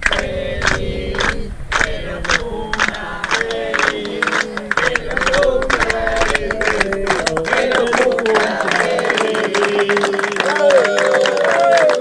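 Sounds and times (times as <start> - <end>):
group of people singing: 0.0 - 11.2
clapping in time: 0.0 - 12.0.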